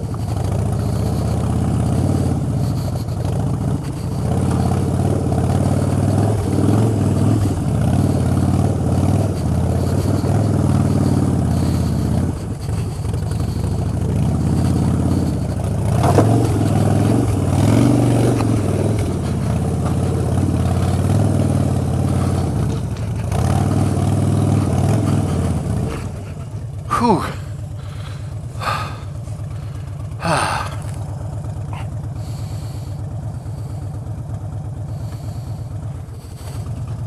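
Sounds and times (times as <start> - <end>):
clatter: 0.0 - 37.0
motorcycle engine revving: 0.0 - 37.0.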